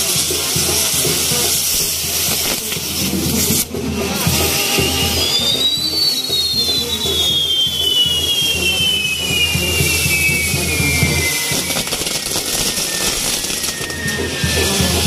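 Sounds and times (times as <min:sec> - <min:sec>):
firework whistle: 0:00.0 - 0:15.0
fireworks hissing rush: 0:00.0 - 0:15.0.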